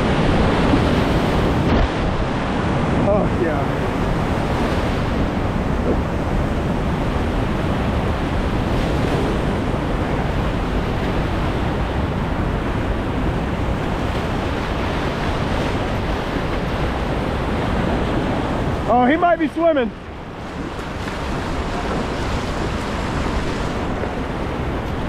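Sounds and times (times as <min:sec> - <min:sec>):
whitewater rapids rushing: 0:00.0 - 0:25.0.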